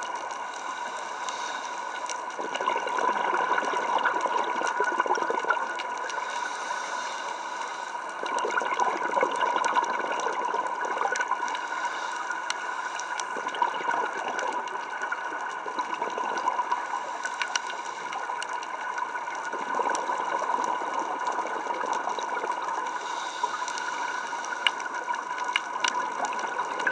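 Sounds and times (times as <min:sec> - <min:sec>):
faint clicks and crackles: 0:00.0 - 0:26.9
watery hiss: 0:00.0 - 0:26.9.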